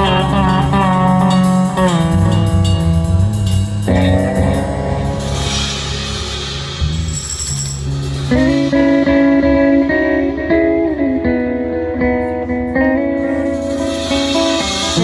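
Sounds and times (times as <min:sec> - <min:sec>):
bass and drums: 0:00.0 - 0:15.0
electric guitar picked notes: 0:00.0 - 0:15.0.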